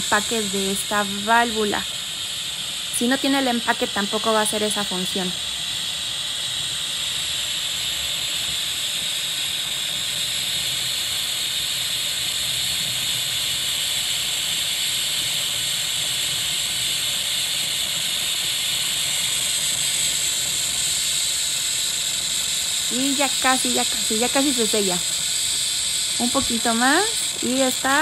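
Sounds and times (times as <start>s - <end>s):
steam hissing from cooker valve: 0.0s - 28.0s.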